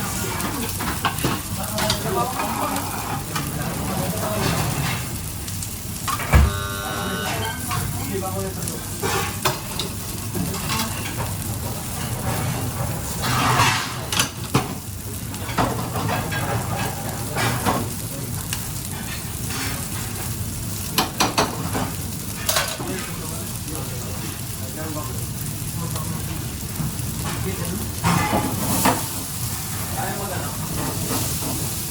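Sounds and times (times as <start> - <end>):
food sizzling in a pan: 0.0 - 31.9.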